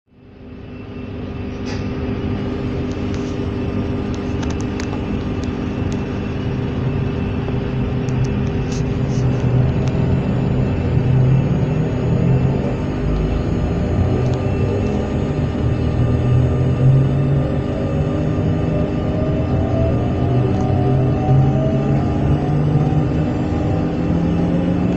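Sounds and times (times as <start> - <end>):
train low rumble: 0.1 - 24.9
electrical equipment humming: 0.3 - 24.9.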